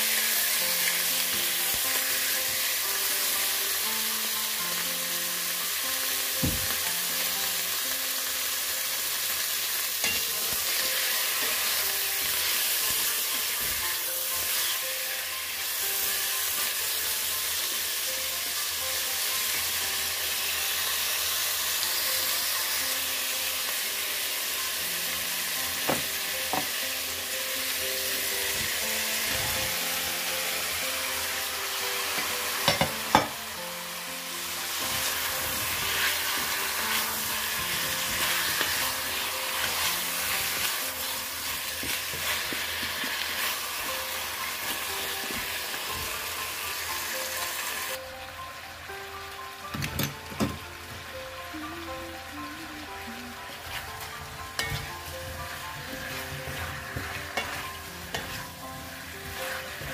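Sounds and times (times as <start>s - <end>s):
chicken and onion sizzling in a pot: 0.0s - 59.9s.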